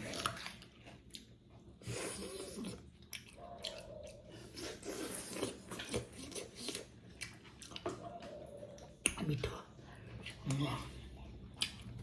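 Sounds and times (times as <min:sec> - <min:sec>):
wet chewing sounds: 0:00.0 - 0:09.3, 0:10.1 - 0:12.0.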